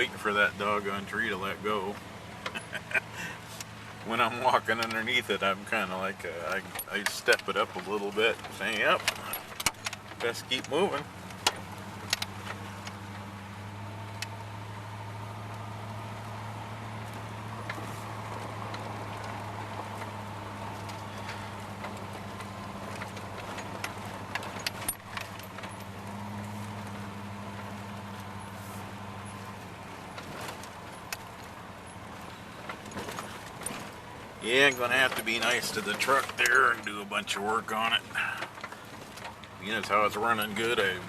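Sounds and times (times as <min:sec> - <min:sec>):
pickup truck engine drone: 0:00.0 - 0:41.0
truck rattling on rough road: 0:00.0 - 0:41.0.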